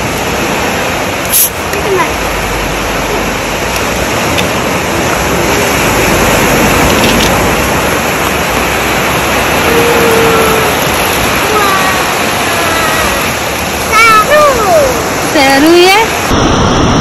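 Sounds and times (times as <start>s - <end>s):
surf at the shore: 0.0s - 17.0s
wind: 0.0s - 17.0s.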